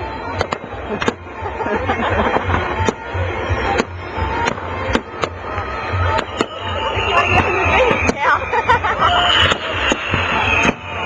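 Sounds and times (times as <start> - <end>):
fireworks bangs: 0.0 - 1.4, 2.4 - 11.0
music with a steady beat: 0.0 - 11.0.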